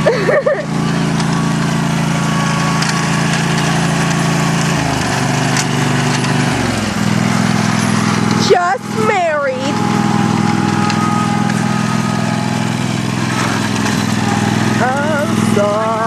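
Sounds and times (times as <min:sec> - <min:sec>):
lawnmower engine running: 0:00.0 - 0:16.0.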